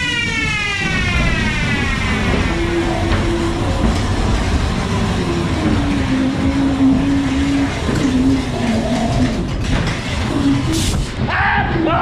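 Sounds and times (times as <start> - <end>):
ride car rumbling on track: 0.0 - 12.0.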